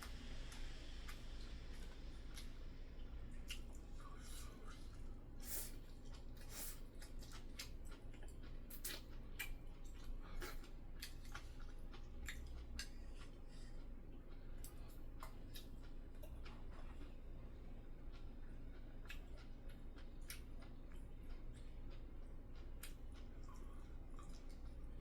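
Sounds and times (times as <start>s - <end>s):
low steady hum: 0.0s - 25.0s
person chewing: 0.0s - 25.0s.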